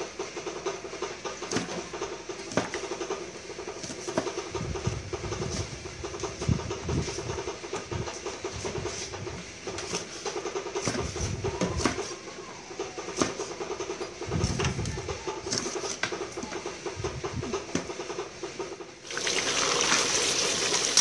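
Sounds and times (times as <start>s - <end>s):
steady mechanical drone: 0.0s - 19.1s.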